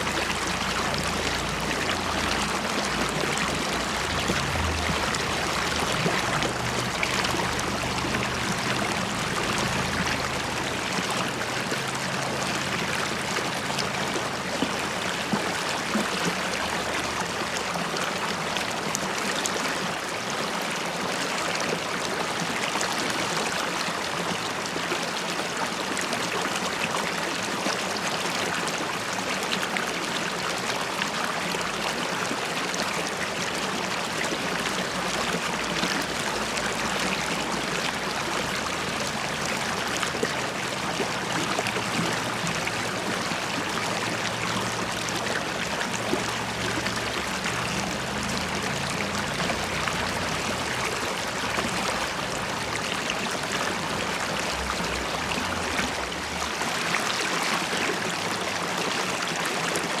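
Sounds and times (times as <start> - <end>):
river water babbling over stones: 0.0 - 60.0.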